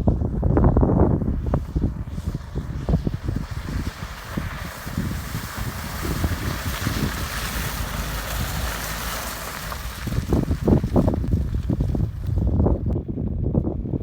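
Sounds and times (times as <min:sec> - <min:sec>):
vehicle driving off-road: 0:00.0 - 0:14.0
wind buffeting microphone: 0:00.0 - 0:14.0.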